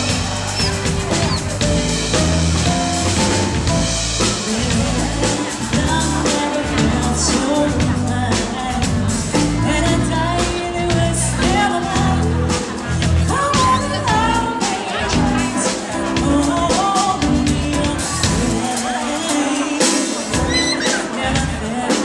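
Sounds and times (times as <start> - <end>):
song with drums and bass: 0.0 - 22.0.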